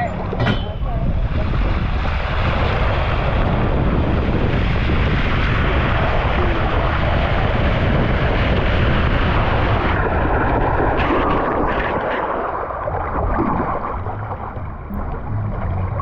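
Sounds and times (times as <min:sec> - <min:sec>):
water rushing: 0:00.0 - 0:16.0
wind buffeting microphone: 0:00.0 - 0:16.0.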